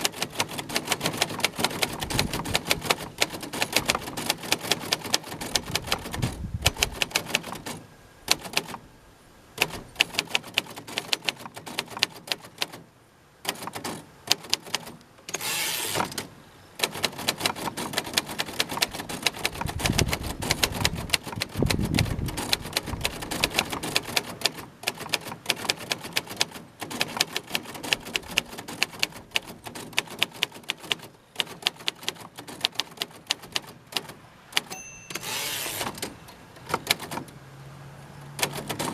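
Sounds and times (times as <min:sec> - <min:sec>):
typewriter carriage return: 0:00.0 - 0:08.8, 0:09.6 - 0:12.8, 0:13.4 - 0:37.4, 0:38.4 - 0:38.9
typewriter keystroke clacks: 0:00.0 - 0:08.8, 0:09.6 - 0:12.8, 0:13.4 - 0:37.4, 0:38.4 - 0:38.9.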